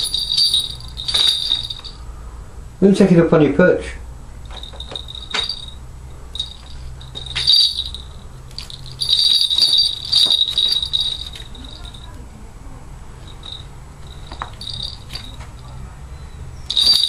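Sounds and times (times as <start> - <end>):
small bells jingling: 0.0 - 2.1, 4.4 - 12.3, 13.2 - 17.0.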